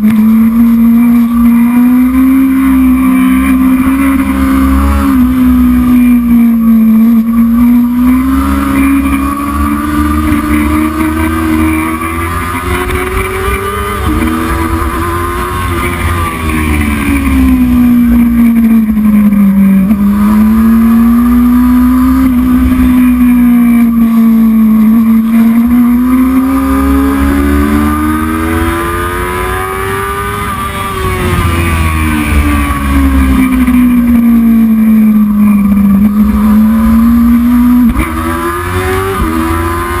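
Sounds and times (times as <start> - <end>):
racing motorcycle engine: 0.0 - 40.0.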